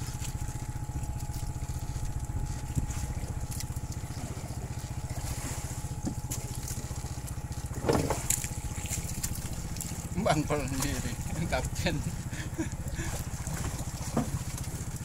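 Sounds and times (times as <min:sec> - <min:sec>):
boat engine thudding: 0:00.0 - 0:15.0.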